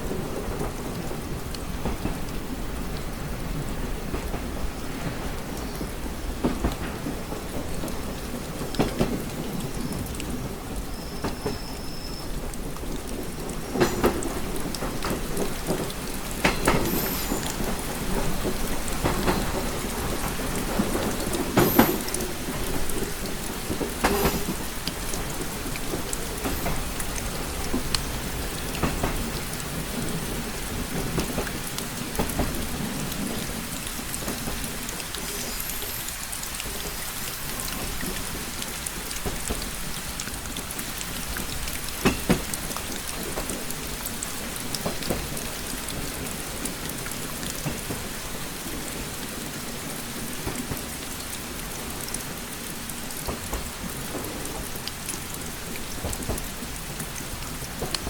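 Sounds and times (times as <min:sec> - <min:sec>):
rain tapping on window glass: 0:00.0 - 0:58.0.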